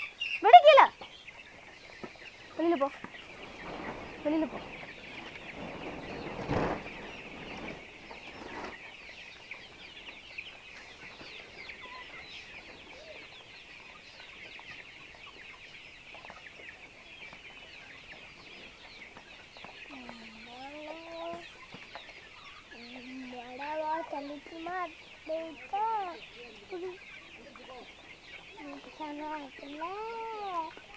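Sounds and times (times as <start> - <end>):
chicks cheeping and chirping: 0.0 - 30.9.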